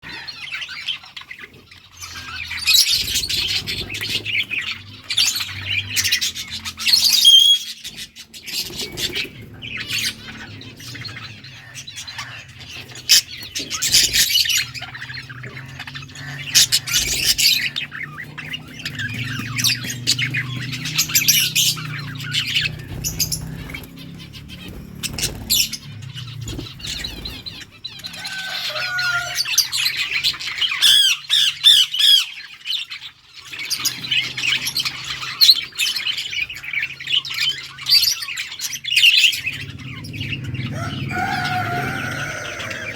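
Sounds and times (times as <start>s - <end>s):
budgerigars chirping: 0.0s - 42.9s.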